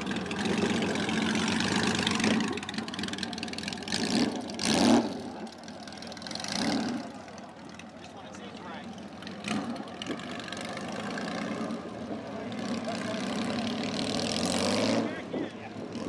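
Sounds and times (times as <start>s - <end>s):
motorcycle engine riding off: 0.0s - 15.2s.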